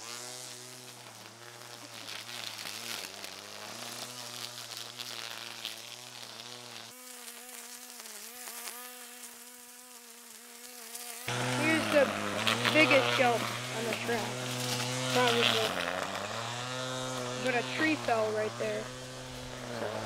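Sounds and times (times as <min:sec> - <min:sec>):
string trimmer cutting weeds: 0:00.0 - 0:20.0.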